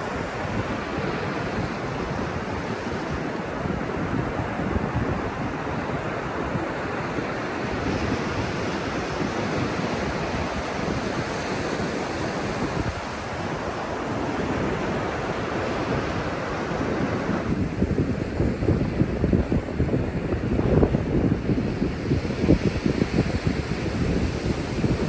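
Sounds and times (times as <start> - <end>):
ocean surf washing over sand: 0.0 - 25.0
wind rumble on microphone: 0.0 - 25.0.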